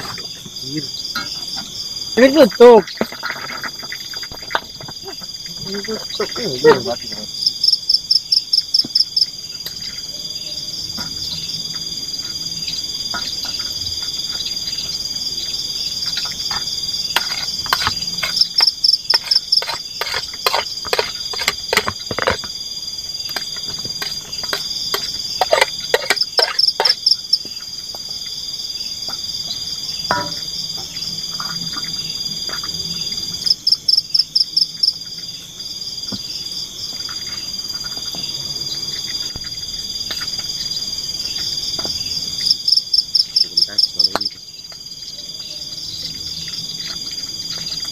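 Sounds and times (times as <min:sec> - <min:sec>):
insects droning: 0:00.0 - 0:47.9
rapid pulsed insect chirps: 0:00.0 - 0:47.9.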